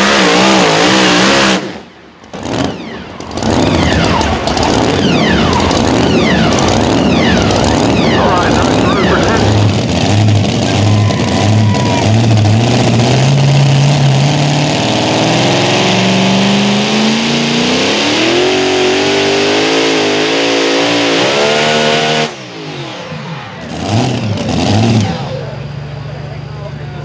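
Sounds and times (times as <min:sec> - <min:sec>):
supercharged engine revving under load: 0:00.0 - 0:25.6.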